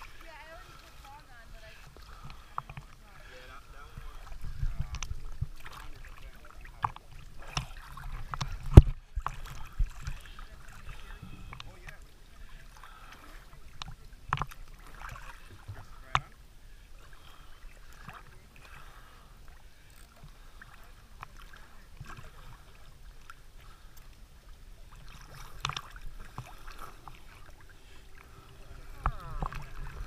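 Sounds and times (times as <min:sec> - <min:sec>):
waves lapping against camera housing: 0:00.0 - 0:30.0.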